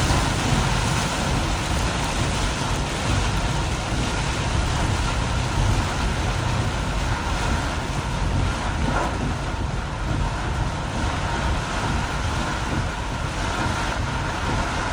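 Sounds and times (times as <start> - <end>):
rain and road spray hiss: 0.0 - 14.9
tyres and engine rumble: 0.0 - 14.9.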